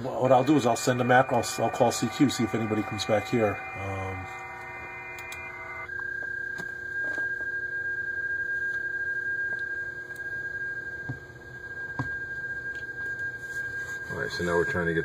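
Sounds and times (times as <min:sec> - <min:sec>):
thin whistle-like tone: 0:00.0 - 0:15.0.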